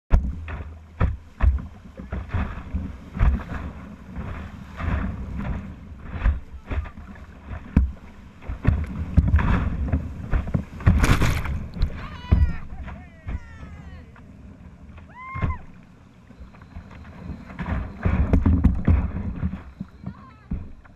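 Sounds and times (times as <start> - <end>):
waves splashing against boat: 0.1 - 20.9.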